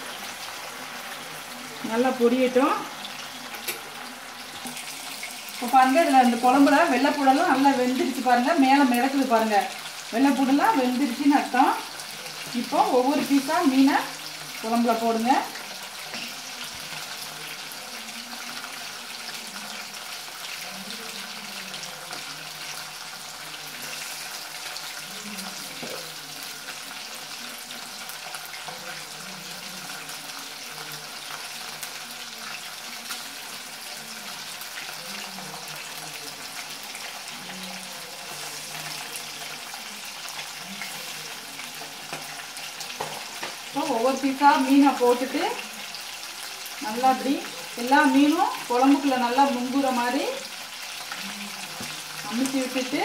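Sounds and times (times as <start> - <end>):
sizzling hiss of cooking: 0.0 - 53.0.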